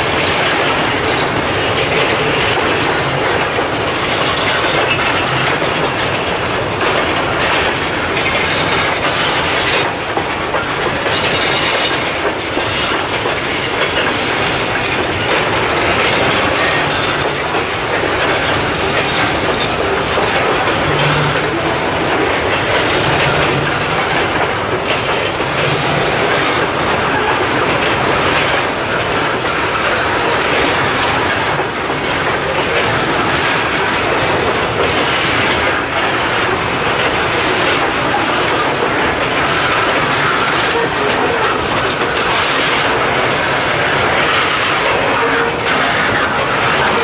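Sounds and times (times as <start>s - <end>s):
train wheels rolling on rail: 0.0s - 47.0s.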